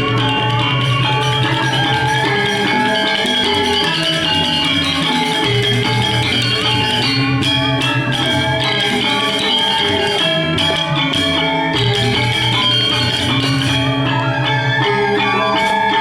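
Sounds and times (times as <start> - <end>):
metallophones ringing: 0.0 - 16.0.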